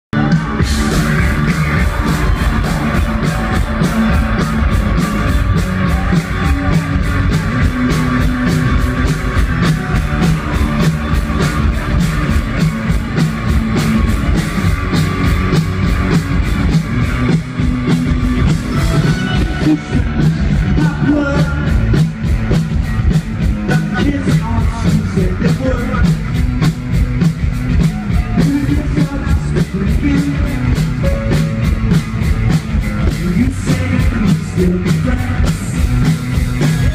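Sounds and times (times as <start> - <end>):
driving drum beat: 0.1 - 36.9
rock band playing live: 0.1 - 36.9.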